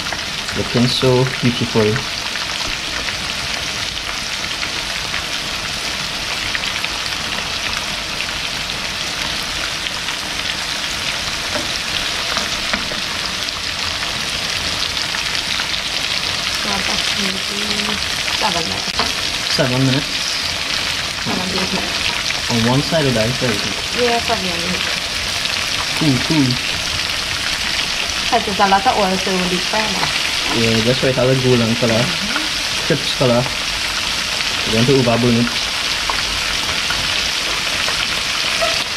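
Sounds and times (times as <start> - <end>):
shrimp deep-frying in oil: 0.0 - 38.9.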